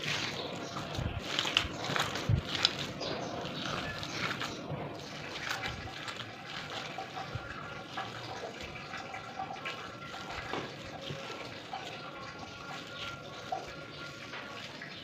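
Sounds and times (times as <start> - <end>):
splashes and clatter: 0.0 - 15.0
water running from a tap: 0.0 - 15.0.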